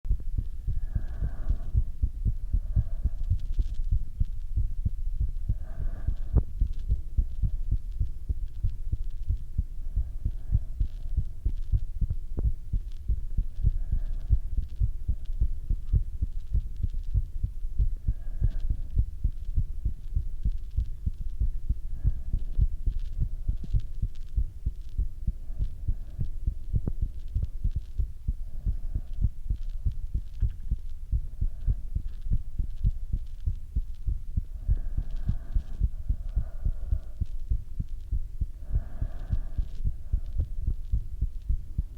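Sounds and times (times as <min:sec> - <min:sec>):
breath sounds: 0:00.1 - 0:41.9
heartbeat thuds: 0:00.1 - 0:41.9.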